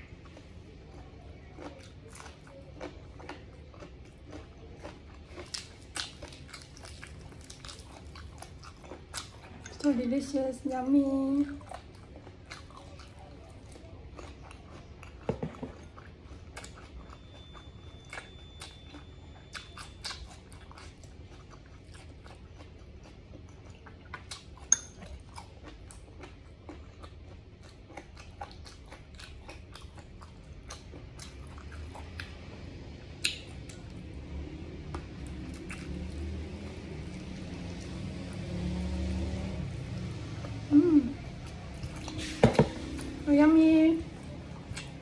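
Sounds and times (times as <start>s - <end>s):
close chewing with wet clicks: 0.0s - 43.3s, 44.0s - 45.0s.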